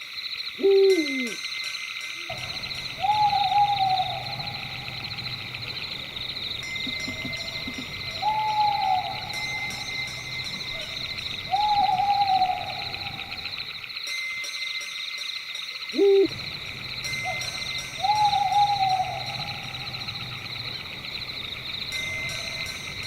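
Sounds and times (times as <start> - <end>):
night insects chirring: 0.0 - 23.0
owl hooting: 0.6 - 1.4, 2.3 - 13.8, 16.0 - 22.7.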